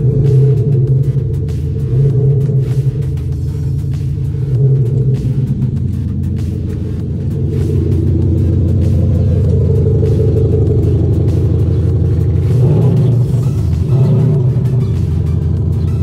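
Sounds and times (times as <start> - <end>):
synthesized engine rumble: 0.0 - 16.0.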